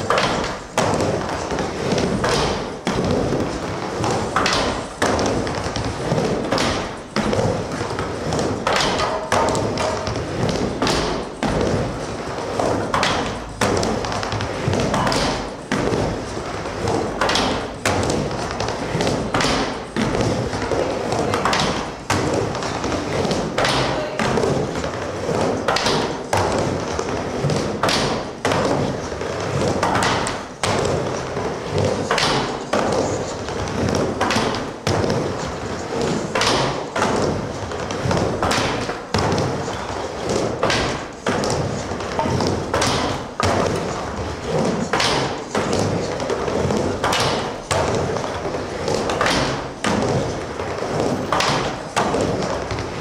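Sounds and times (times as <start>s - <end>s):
skateboard knocking on coping: 0.0s - 53.0s
skateboard wheels rumbling on plywood: 0.0s - 53.0s.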